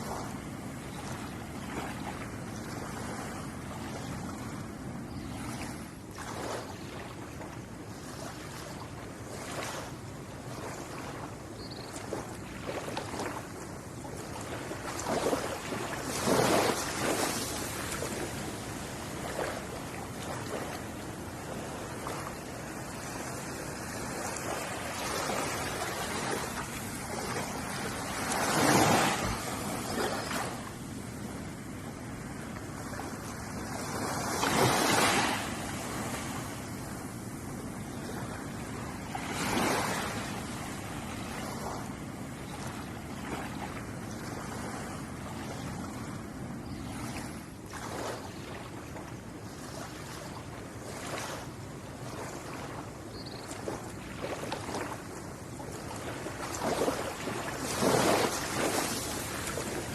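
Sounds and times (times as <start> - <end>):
small waves washing onto shore: 0.0 - 59.9
waves breaking: 0.0 - 59.9.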